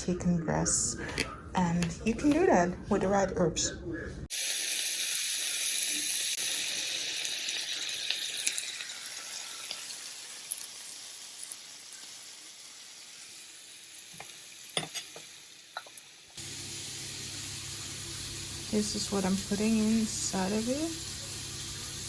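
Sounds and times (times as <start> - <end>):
food sizzling in a pan: 4.3 - 22.0.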